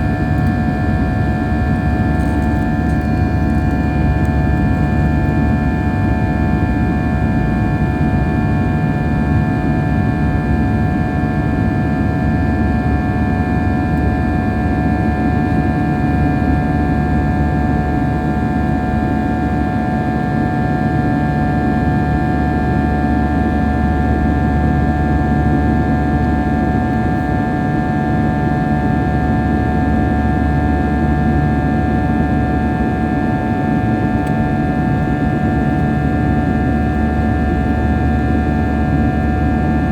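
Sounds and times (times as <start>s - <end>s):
airliner cabin airflow and engines: 0.0s - 39.9s.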